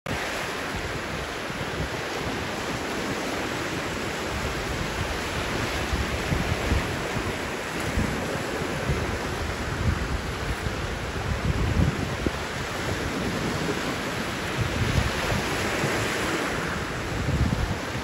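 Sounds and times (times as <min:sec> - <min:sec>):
waves breaking on sand beach: 0:00.1 - 0:18.0
wind buffeting microphone: 0:00.1 - 0:18.0.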